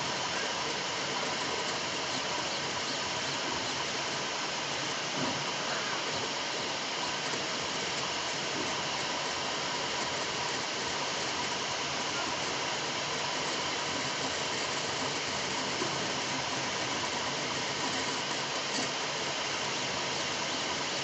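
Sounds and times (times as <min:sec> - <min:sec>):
printer fans and motors whirring: 0:00.0 - 0:21.0.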